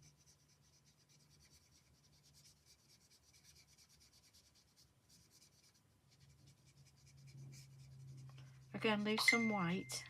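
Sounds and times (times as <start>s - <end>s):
marker scratching on card: 0.0s - 9.0s.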